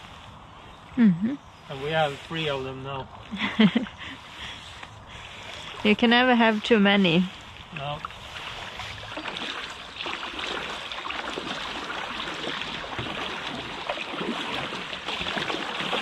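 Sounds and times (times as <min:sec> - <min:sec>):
paddle strokes in water: 0:01.7 - 0:16.0
river water splashing: 0:01.7 - 0:16.0.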